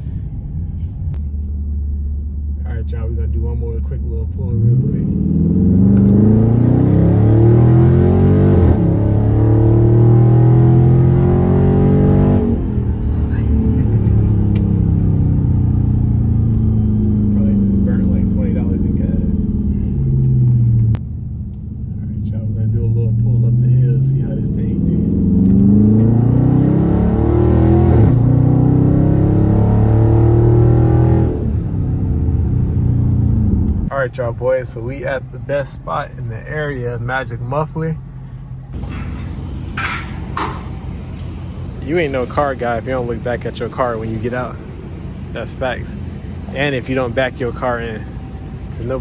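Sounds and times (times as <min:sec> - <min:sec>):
car engine at full throttle: 0:00.0 - 0:49.0.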